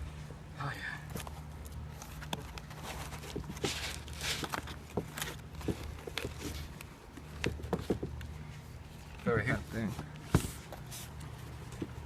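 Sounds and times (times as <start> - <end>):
steady low hum: 0.0 - 12.0
packaging rustling: 1.1 - 12.0.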